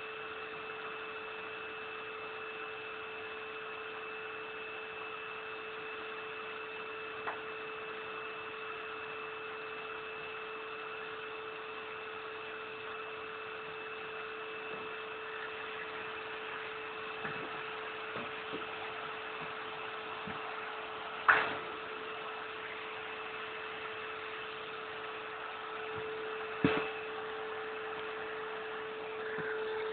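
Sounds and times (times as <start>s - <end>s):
vacuum dust extractor whining: 0.0s - 29.9s.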